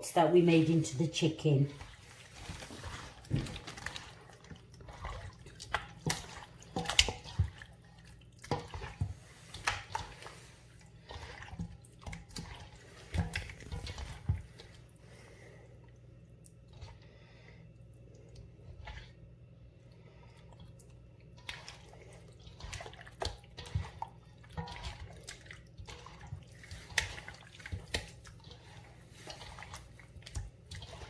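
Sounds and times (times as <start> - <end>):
hands squelching meat in marinade: 1.7 - 31.0.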